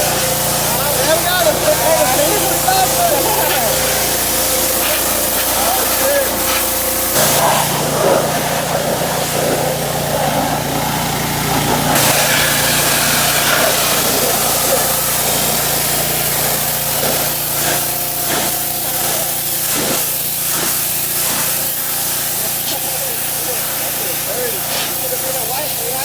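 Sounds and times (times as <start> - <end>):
motor humming: 0.0 - 26.0
pressure washer water jet hissing: 0.0 - 26.0.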